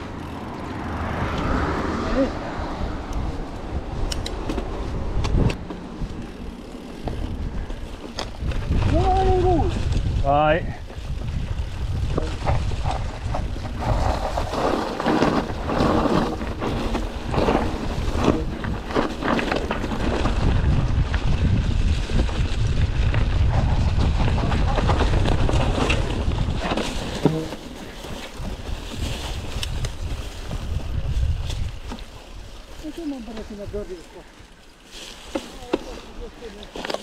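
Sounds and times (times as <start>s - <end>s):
wind buffeting microphone: 0.0s - 34.6s
bike knocking and rattling: 3.1s - 33.9s, 34.6s - 37.0s.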